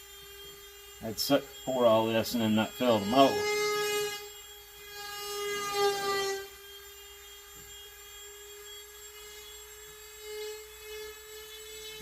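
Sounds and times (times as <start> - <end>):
small motor whining: 0.0 - 12.0.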